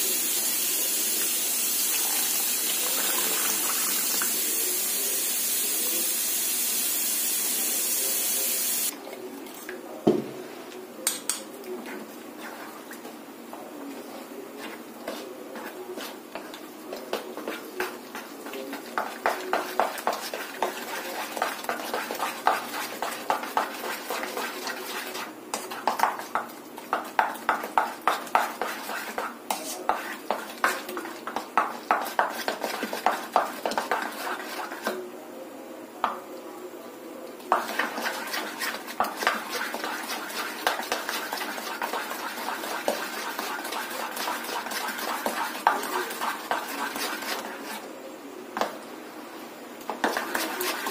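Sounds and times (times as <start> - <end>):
batter stirred in steel bowl: 0.8 - 6.0, 11.0 - 35.0, 37.4 - 48.0, 49.8 - 50.9.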